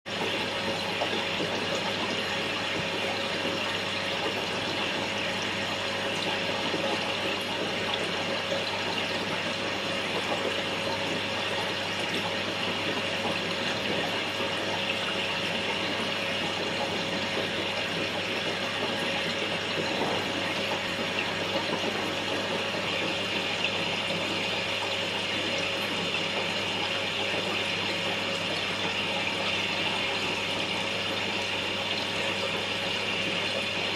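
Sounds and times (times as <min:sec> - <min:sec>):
aquarium filter low hum: 0:00.1 - 0:33.9.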